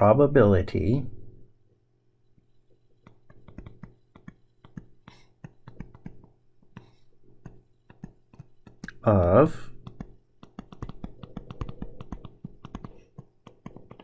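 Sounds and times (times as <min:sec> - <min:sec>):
low steady hum: 0:00.0 - 0:14.0
stylus tapping and scratching on tablet: 0:02.2 - 0:14.0.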